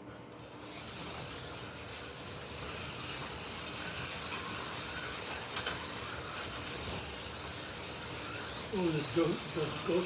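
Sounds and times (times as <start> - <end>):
slot car motors whirring: 0.6 - 10.0.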